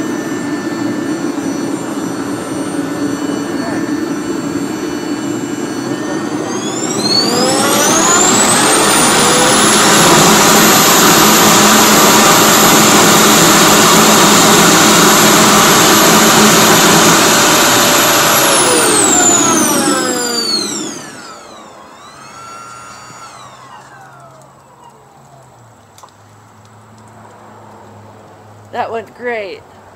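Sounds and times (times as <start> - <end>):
jet engine whine: 0.0 - 28.6
burning propane roar: 0.0 - 29.9.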